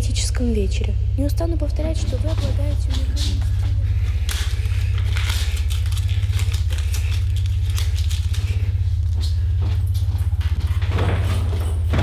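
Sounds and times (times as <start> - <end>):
low throbbing drone: 0.0 - 12.0.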